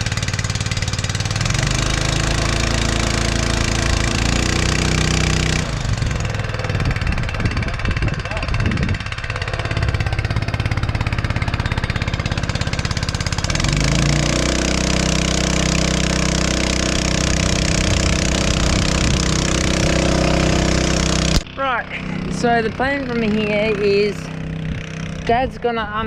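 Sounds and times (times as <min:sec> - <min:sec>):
engine running with pulsing beat: 0:00.0 - 0:26.0.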